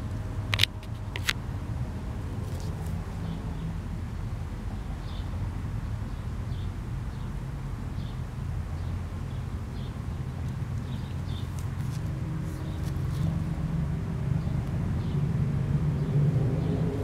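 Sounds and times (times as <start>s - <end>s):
engine hum: 0.0s - 17.0s
low outdoor rumble: 0.0s - 17.0s.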